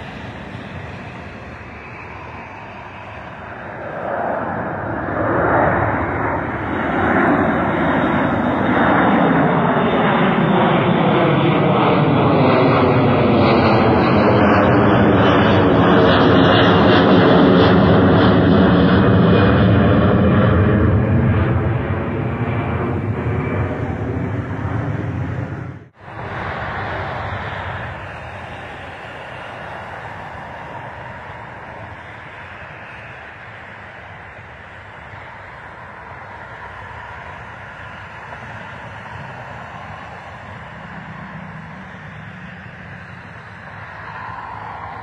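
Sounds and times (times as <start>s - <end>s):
jet engine noise: 0.0s - 45.0s.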